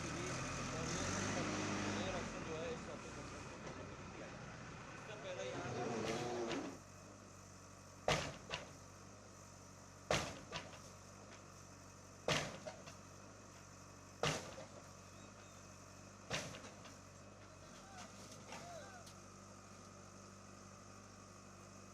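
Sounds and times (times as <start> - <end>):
heavy machine engine running: 0.0 - 21.9.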